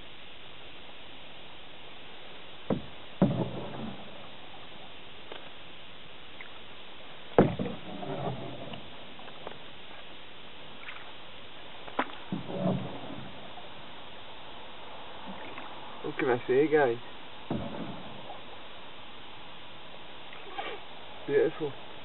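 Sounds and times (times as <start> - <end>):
steady hiss: 0.0 - 22.0
canoe paddle strokes: 2.2 - 19.0, 20.3 - 22.0.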